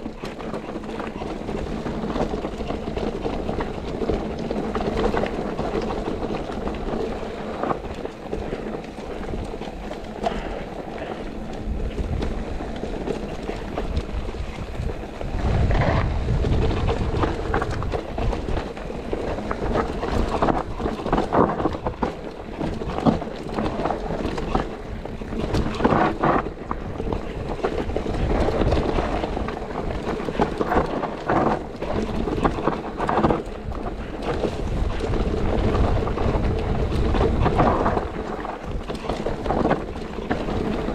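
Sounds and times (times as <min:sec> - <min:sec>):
bike clattering over bumps: 0:00.0 - 0:40.9
tyres on dirt and stones: 0:00.0 - 0:40.9
wind buffeting microphone: 0:00.0 - 0:40.9.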